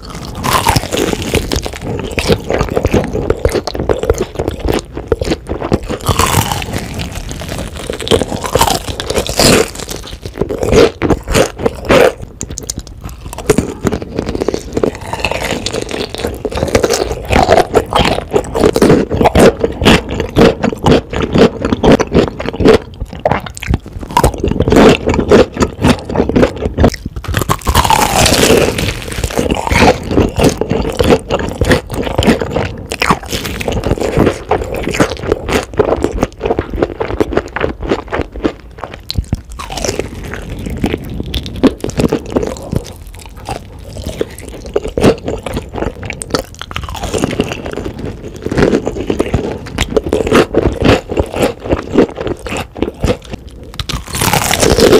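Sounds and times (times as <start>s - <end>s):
crunchy chewing of fried chicken: 0.0s - 54.9s.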